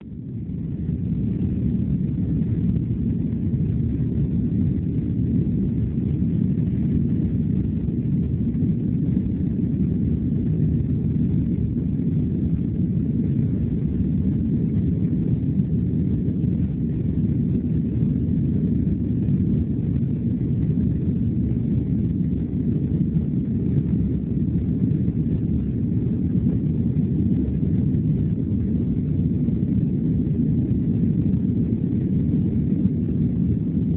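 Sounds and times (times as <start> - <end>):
jet engines at takeoff thrust: 0.0 - 33.9.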